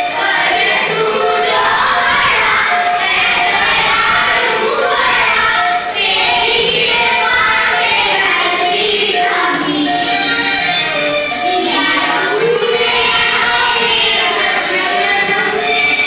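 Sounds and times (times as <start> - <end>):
children singing in unison: 0.0 - 16.0
music through a loudspeaker: 0.0 - 16.0.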